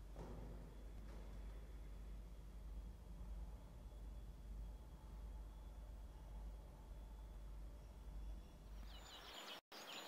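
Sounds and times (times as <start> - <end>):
faint low rumble: 0.0 - 9.3
faint bird chirping: 0.5 - 10.0.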